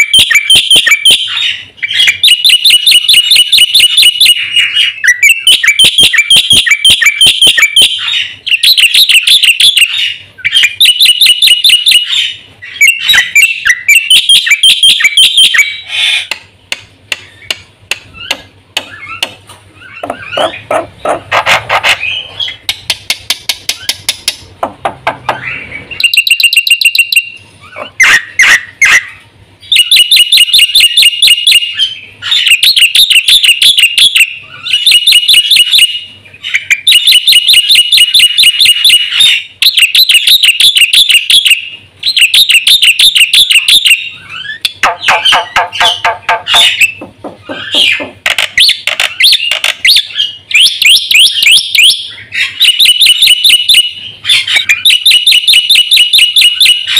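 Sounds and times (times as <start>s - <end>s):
bird chattering song: 0.0s - 56.9s.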